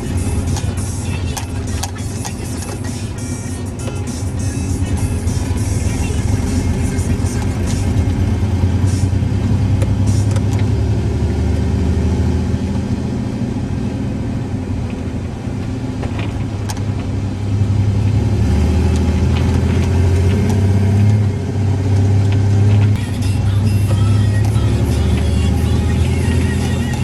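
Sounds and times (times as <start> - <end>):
pickup engine drone from cab: 0.0 - 27.0.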